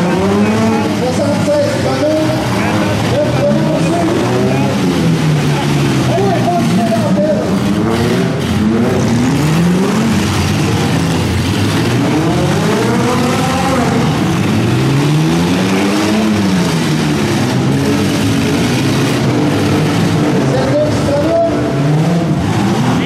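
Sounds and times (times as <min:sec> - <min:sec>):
car engines revving hard: 0:00.0 - 0:23.0.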